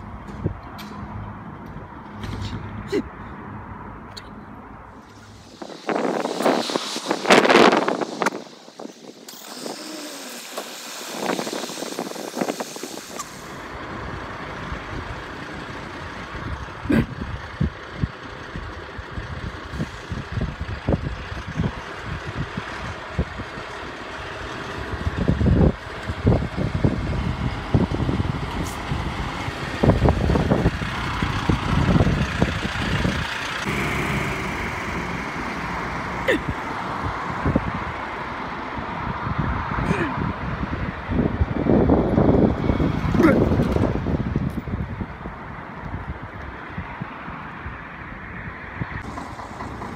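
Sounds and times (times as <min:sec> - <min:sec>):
fire engine diesel engine running: 0:00.0 - 0:39.0, 0:49.0 - 0:49.9.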